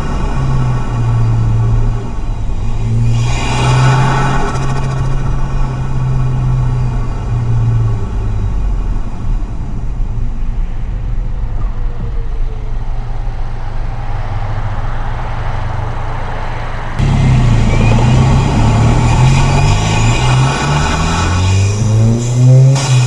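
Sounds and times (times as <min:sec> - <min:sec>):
car engine drone: 0:00.0 - 0:23.0
road and tyre noise: 0:00.0 - 0:23.0.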